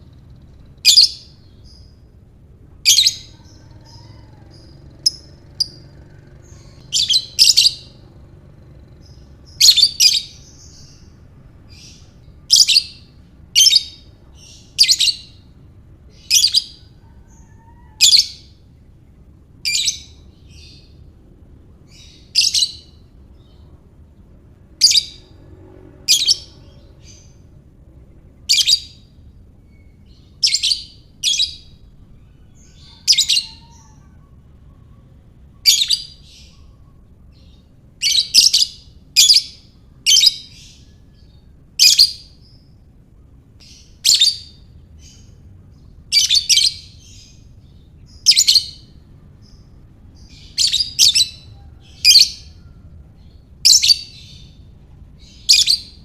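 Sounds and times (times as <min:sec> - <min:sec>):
bird chirping high-pitched: 0:00.0 - 0:18.7, 0:19.6 - 0:27.7, 0:28.4 - 0:56.0.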